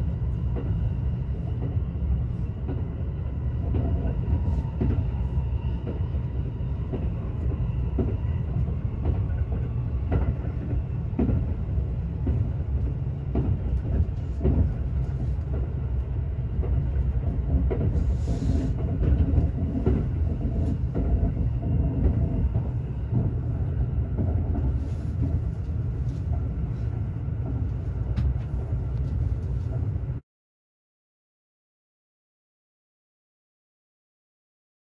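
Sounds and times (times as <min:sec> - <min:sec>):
train wheels rumbling on track: 0:00.0 - 0:30.2
rail clicks and knocks: 0:00.3 - 0:00.9, 0:02.6 - 0:30.1.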